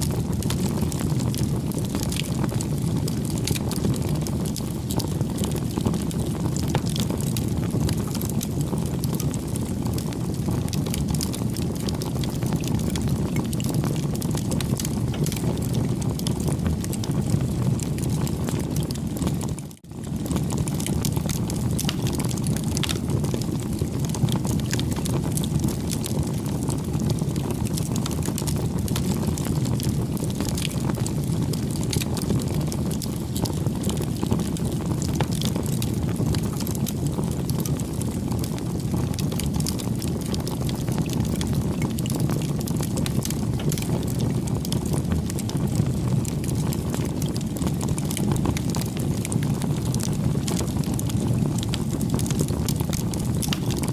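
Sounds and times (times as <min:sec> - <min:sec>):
campfire flame rushing: 0:00.0 - 0:53.9
fire crackling and popping: 0:00.0 - 0:53.9.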